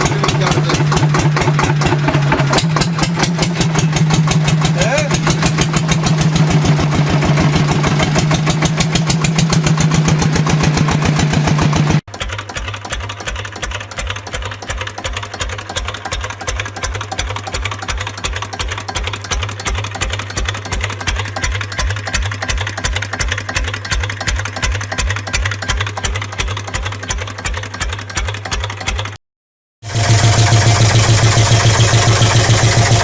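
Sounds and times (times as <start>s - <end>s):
small diesel engine idling: 0.0s - 29.2s, 29.8s - 33.0s.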